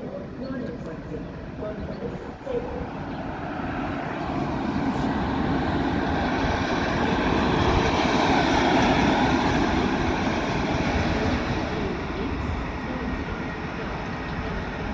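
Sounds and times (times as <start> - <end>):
electric locomotive passing: 0.0 - 14.9.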